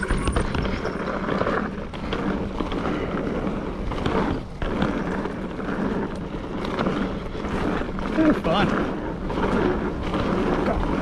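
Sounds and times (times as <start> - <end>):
bike clicks and rattles: 0.0 - 11.0
bike tyres rolling on dirt: 0.0 - 11.0.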